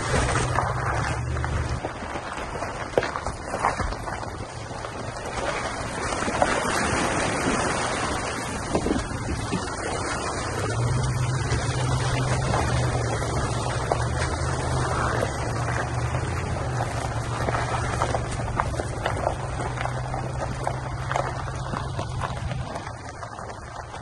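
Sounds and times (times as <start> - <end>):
engine hum: 0.0 - 24.0
tyre and trail noise: 0.0 - 24.0.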